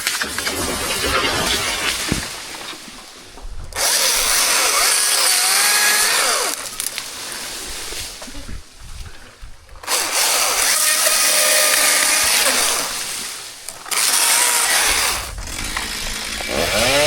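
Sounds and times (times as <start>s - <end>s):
chainsaw cutting wood: 0.0s - 2.9s, 3.7s - 7.5s, 9.8s - 17.0s.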